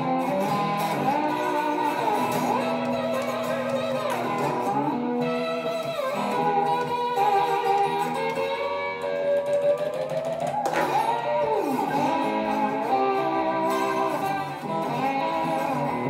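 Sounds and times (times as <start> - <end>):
slide electric guitar: 0.0 - 16.0.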